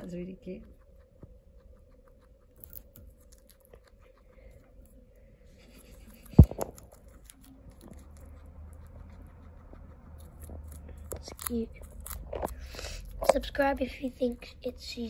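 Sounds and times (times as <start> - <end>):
guinea pig chewing leaf: 0.0 - 15.0.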